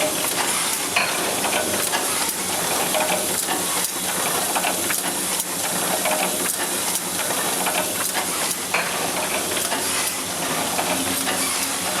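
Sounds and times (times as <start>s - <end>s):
book sewing machine running: 0.0s - 12.0s.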